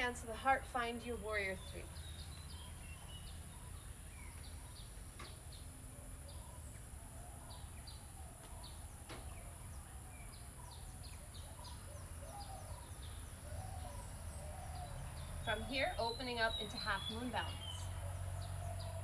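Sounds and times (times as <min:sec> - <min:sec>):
lower bird warbling calls: 0:01.6 - 0:19.0.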